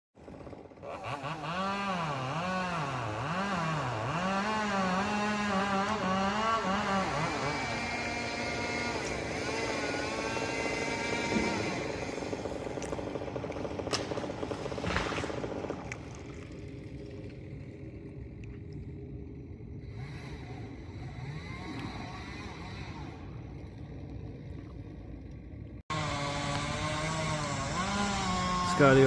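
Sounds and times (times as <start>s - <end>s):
chainsaw running: 0.2s - 17.2s, 19.9s - 23.2s, 25.9s - 29.0s.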